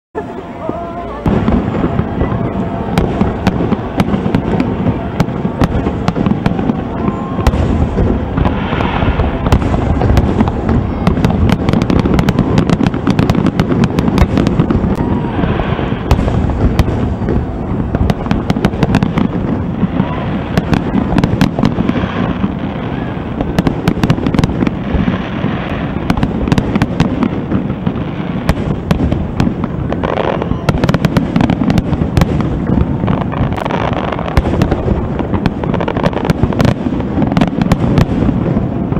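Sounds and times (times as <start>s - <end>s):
fireworks bangs and cracks: 0.2s - 38.9s.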